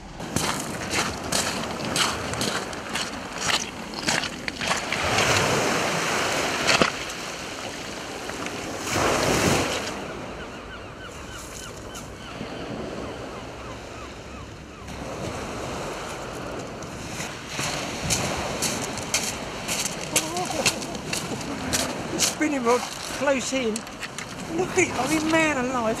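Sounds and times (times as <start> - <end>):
waves washing on shingle: 0.2 - 10.1, 14.9 - 26.0.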